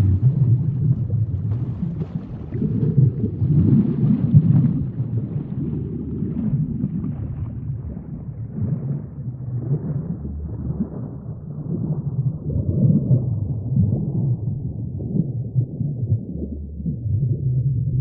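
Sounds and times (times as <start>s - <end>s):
low churning water rumble: 0.0s - 18.0s.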